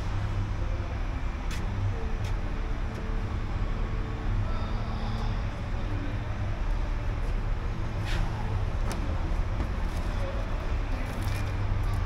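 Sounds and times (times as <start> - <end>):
diesel engine idling: 0.0 - 12.0
faint steady hum: 0.0 - 12.0.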